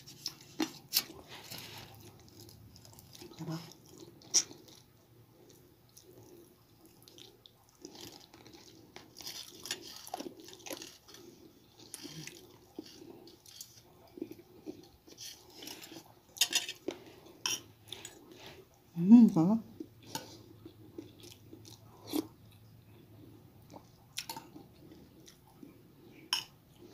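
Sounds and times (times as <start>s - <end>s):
wet chewing and lip-smacking: 0.0s - 17.0s, 19.8s - 26.9s.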